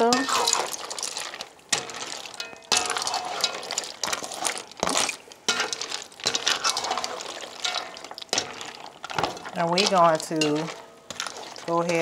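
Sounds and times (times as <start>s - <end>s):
utensil stirring pasta in pot: 0.0s - 12.0s.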